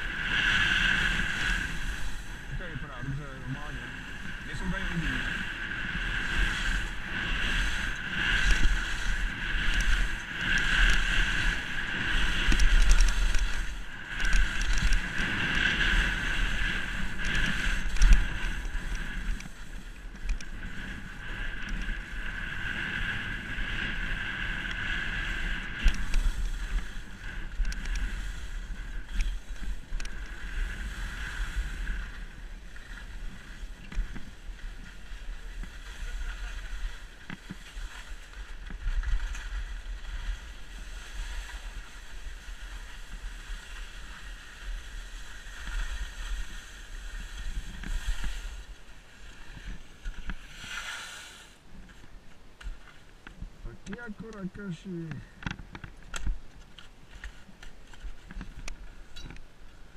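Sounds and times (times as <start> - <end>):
wind rumble on microphone: 0.0 - 50.9
skis scraping over snow: 0.0 - 59.9.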